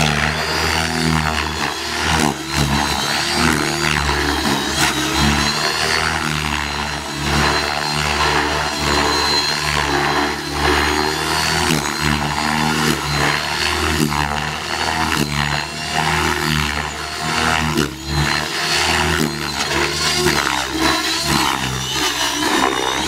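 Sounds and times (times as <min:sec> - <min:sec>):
rc helicopter motor and rotors: 0:00.0 - 0:23.0.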